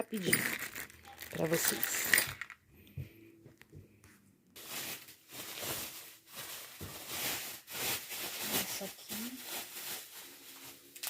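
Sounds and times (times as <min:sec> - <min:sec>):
plastic packaging rustling: 0:00.0 - 0:02.6, 0:04.6 - 0:11.0.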